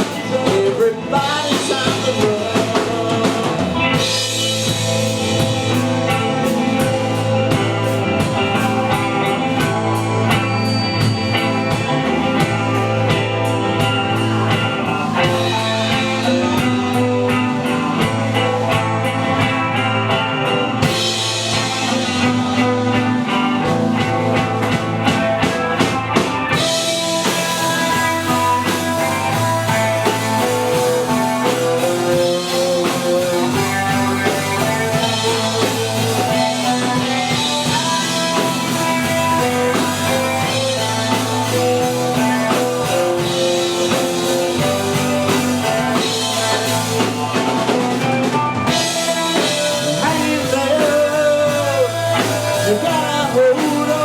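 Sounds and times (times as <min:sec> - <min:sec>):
drum kit beat: 0:00.0 - 0:54.0
live rock band playing: 0:00.0 - 0:54.0
lead guitar held notes: 0:03.6 - 0:54.0.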